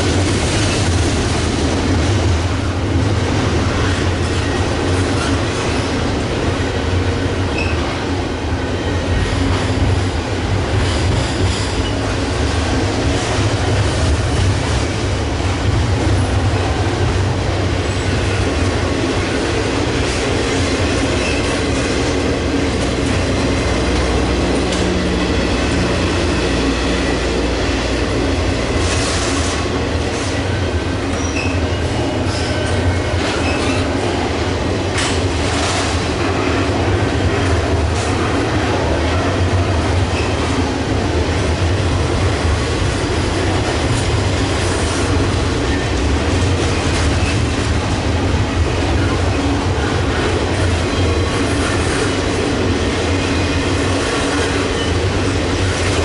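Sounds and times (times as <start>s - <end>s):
train wheels rumbling on bridge: 0.0s - 56.0s.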